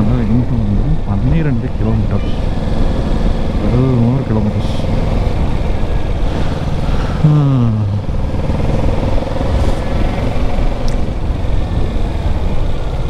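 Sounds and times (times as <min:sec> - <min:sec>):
motorcycle engine running: 0:00.0 - 0:13.0
road rumble: 0:00.0 - 0:13.0.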